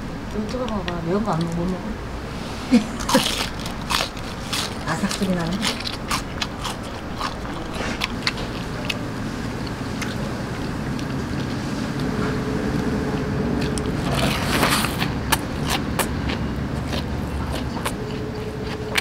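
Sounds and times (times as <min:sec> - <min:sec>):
low restaurant rumble: 0:00.0 - 0:19.0.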